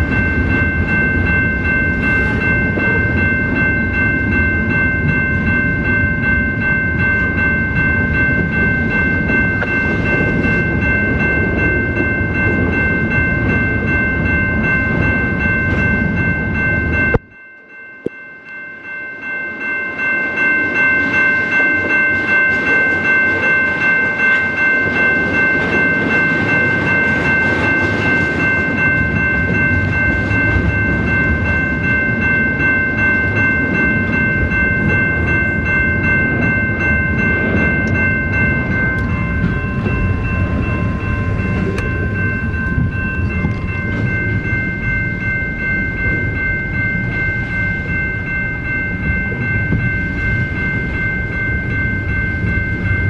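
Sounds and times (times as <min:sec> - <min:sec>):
train rumbling and clattering past: 0:00.0 - 0:17.2, 0:18.5 - 0:53.0
crossing bell ringing: 0:00.0 - 0:53.0.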